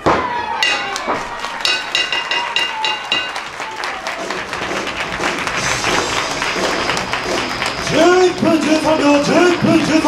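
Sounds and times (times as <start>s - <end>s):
audience applause: 0.9s - 10.0s.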